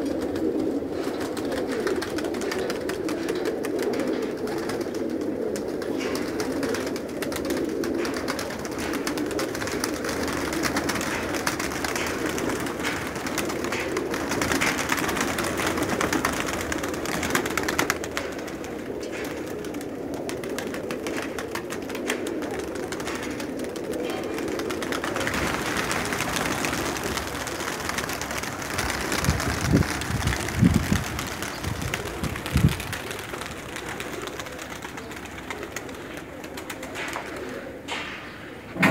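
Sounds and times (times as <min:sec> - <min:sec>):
pigeons cooing: 0:00.0 - 0:38.9
wings flapping: 0:00.0 - 0:38.9.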